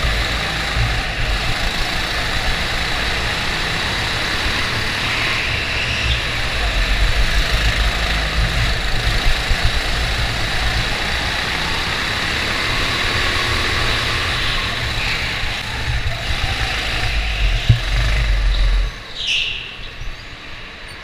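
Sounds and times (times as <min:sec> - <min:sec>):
go-kart engine running: 0:00.0 - 0:20.8.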